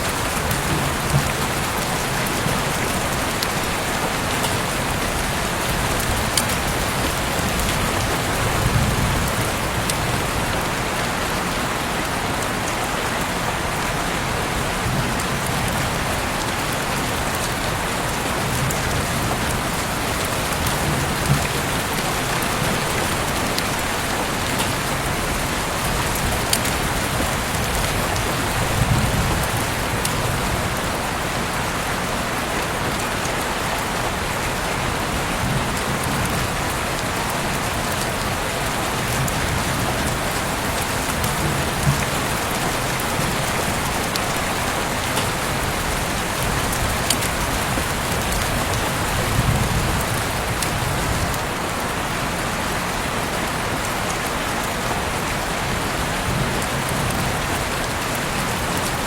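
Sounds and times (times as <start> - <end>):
heavy rain hiss: 0.0 - 59.0
raindrops ticking on surfaces: 0.0 - 59.0.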